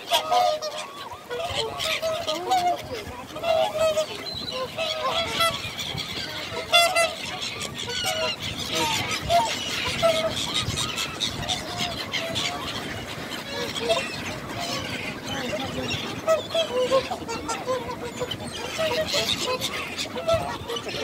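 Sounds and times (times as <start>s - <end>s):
flock of birds calling: 0.0s - 21.0s.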